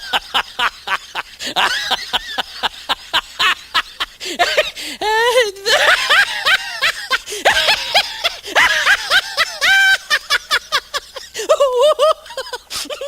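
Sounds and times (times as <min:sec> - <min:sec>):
high-pitched giggling laughter: 0:00.0 - 0:13.0.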